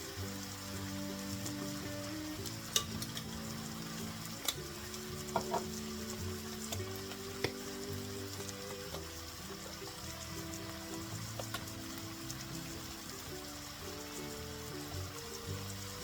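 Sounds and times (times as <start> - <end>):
background music: 0.0 - 16.0
food sizzling in a pan: 0.0 - 16.0
utensil clicking against pan: 0.2 - 16.0.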